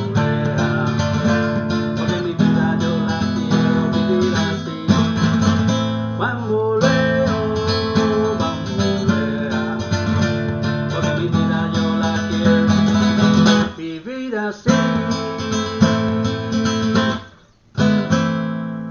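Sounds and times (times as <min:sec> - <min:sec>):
acoustic guitar strumming: 0:00.0 - 0:14.0, 0:14.6 - 0:18.9.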